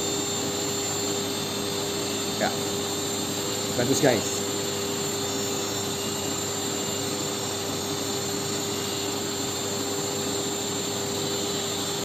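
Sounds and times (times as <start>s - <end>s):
electric motor droning: 0.0s - 12.0s.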